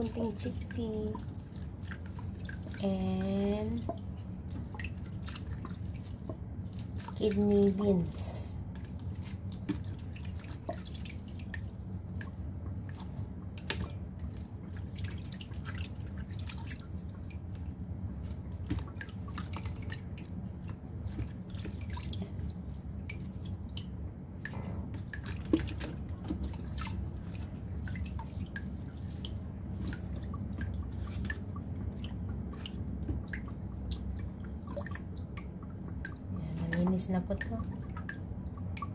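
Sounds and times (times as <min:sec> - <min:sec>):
steady low hum: 0:00.0 - 0:38.9
water sloshing and splashing: 0:00.0 - 0:38.9.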